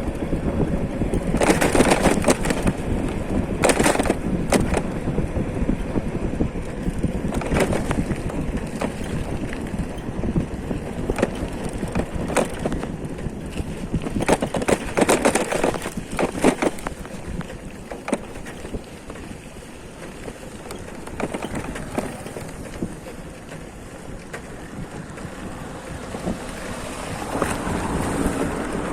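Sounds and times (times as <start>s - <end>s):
road travel rumble: 0.0s - 28.9s
wind buffeting microphone: 0.0s - 28.9s
knocks and rattles: 1.1s - 5.1s, 6.4s - 19.4s, 20.0s - 28.9s.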